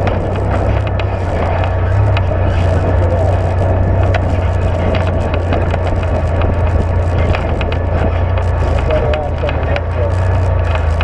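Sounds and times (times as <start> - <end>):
tyres on dirt trail: 0.0 - 11.0
utility vehicle engine droning: 0.0 - 11.0
vehicle rattling over rough ground: 0.0 - 11.0.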